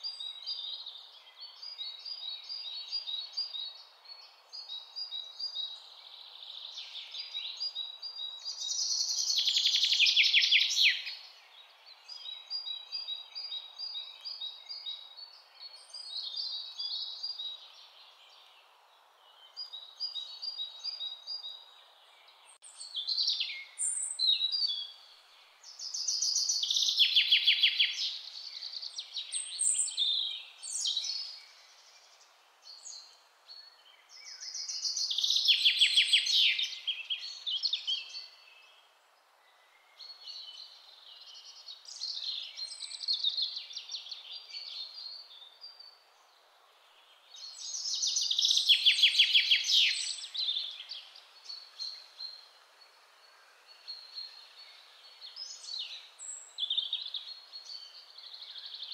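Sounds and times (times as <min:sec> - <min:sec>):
birdsong chirps and trills: 0:00.0 - 0:58.9
faint steady hiss: 0:00.0 - 0:58.9.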